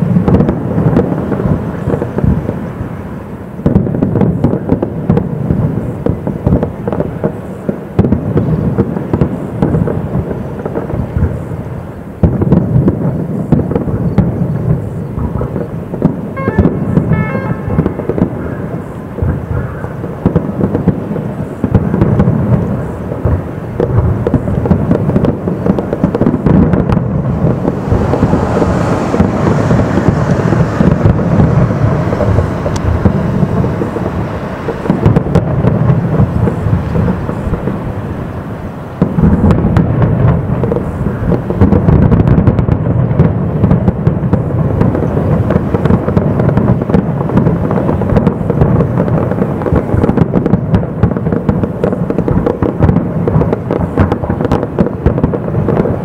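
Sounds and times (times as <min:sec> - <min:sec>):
crackling firework hiss: 0:00.0 - 0:56.0
fireworks booming: 0:00.0 - 0:56.0
quick firework crackles: 0:00.0 - 0:56.0.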